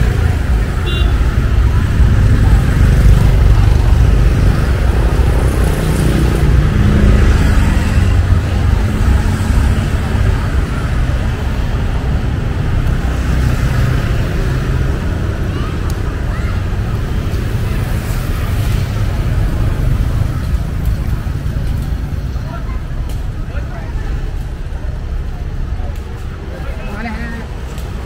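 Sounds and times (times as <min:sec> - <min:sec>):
traffic engines rumbling: 0:00.0 - 0:28.0.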